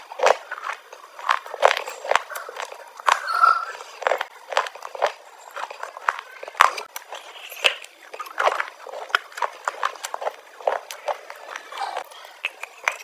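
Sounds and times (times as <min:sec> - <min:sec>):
crunching of hard food: 0:00.0 - 0:13.0
quiet chewing: 0:00.0 - 0:13.0.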